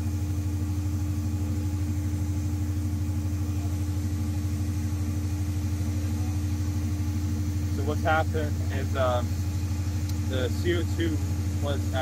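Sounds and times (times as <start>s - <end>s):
generator engine droning: 0.0s - 12.0s.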